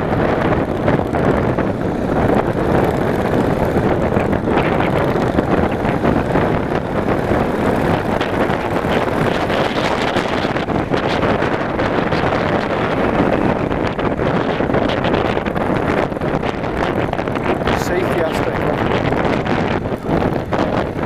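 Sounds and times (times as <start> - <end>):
motorcycle engine: 0.0 - 21.0
road noise: 0.0 - 21.0
wind rush over microphone: 0.0 - 21.0.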